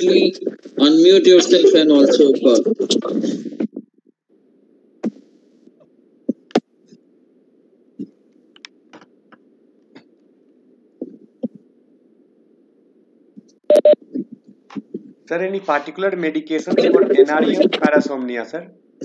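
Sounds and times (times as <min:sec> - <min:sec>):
open microphone hiss: 0:00.0 - 0:19.0.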